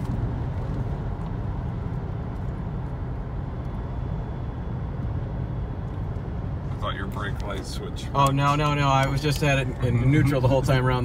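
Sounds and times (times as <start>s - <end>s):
road and tyre noise in car cabin: 0.0s - 11.0s.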